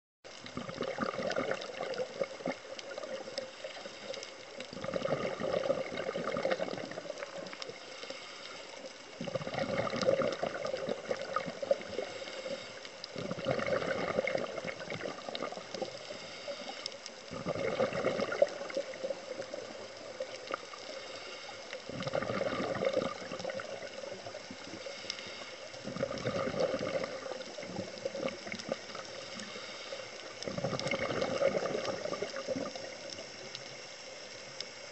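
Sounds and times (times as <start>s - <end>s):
diver's exhaled bubbles gurgling: 0.3s - 7.9s, 8.8s - 34.6s
crackle of small clicks: 0.3s - 34.9s.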